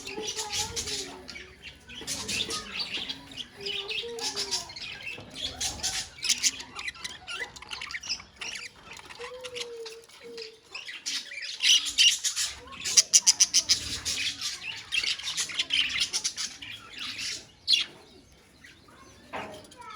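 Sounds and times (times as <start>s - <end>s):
budgerigars chattering: 0.0s - 19.4s.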